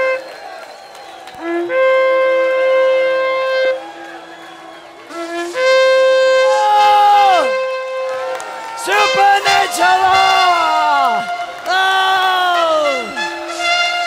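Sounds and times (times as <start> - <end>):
shofar blasts: 0.0 - 0.7, 1.3 - 14.0.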